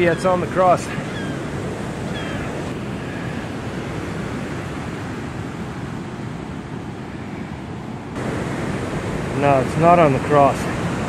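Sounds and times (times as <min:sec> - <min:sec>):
ocean surf breaking on beach: 0:00.0 - 0:11.0
wind rumbling on microphone: 0:00.0 - 0:11.0.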